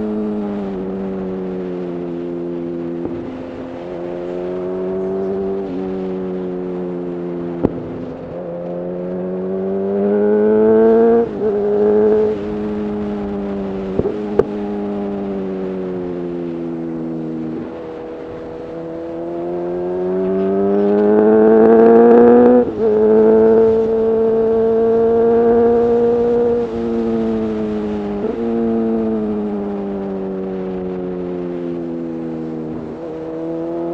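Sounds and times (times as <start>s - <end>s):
motorcycle accelerating through gears: 0.0s - 33.9s.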